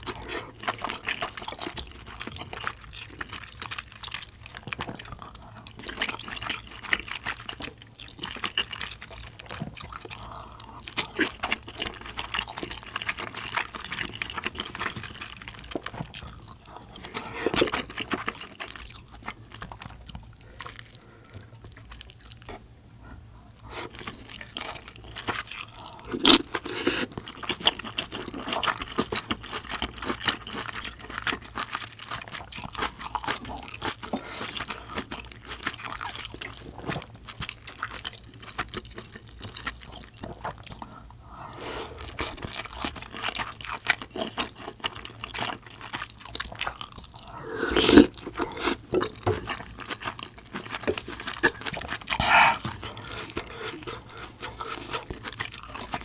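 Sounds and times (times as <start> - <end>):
food crunching: 0.0 - 22.7, 23.4 - 56.0
chewing and slurping: 0.0 - 56.0.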